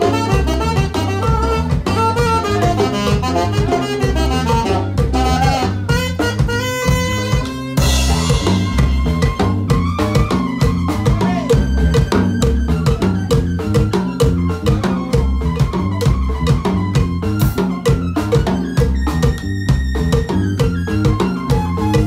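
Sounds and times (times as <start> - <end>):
alto saxophone melody: 0.0 - 22.0
bass and beat: 0.0 - 22.0
keyboard accompaniment: 0.0 - 22.0.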